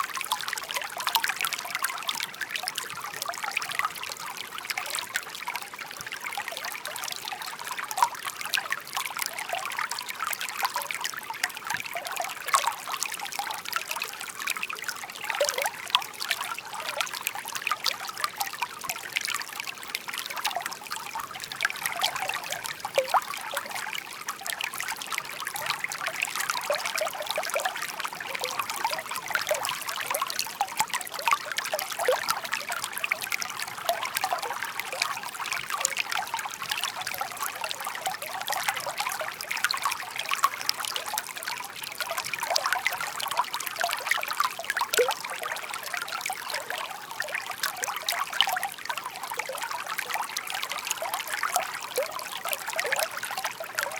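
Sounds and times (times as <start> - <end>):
brook babbling over stones: 0.0 - 53.9.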